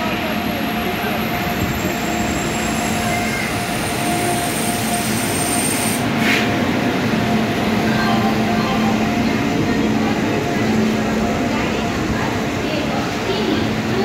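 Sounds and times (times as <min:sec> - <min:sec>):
electric locomotive hum and whine: 0:00.0 - 0:14.0.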